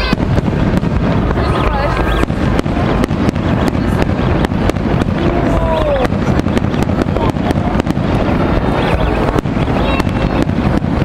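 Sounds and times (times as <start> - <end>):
firework bangs and crackles: 0.0 - 11.0.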